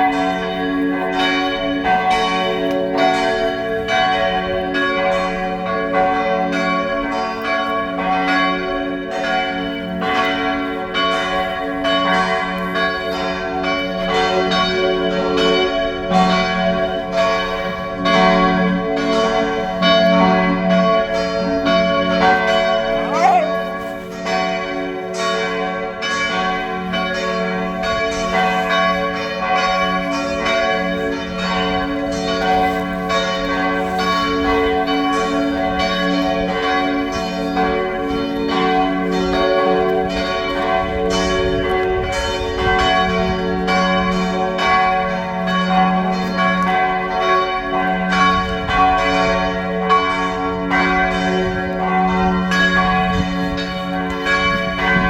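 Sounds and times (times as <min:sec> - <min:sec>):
church bell pealing: 0:00.0 - 0:55.0.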